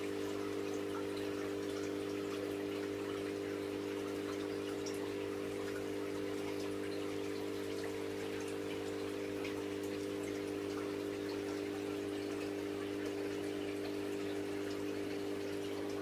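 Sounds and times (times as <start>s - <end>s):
aquarium filter pump hum: 0.0s - 16.0s
water trickling and dripping: 0.0s - 16.0s.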